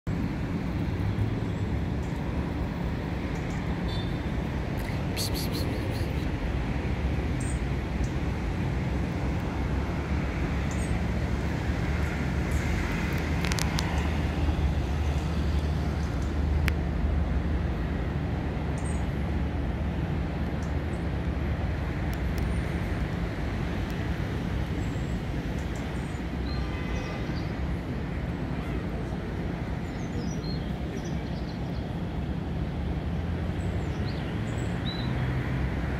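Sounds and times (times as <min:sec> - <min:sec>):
low rumble of vehicle noise: 0:00.0 - 0:35.9.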